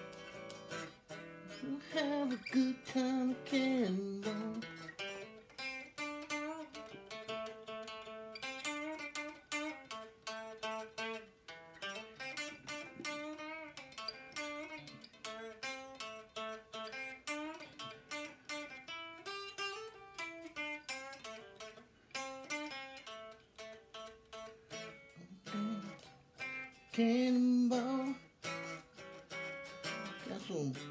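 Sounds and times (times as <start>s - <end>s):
guitar playing melody: 0.0s - 30.9s.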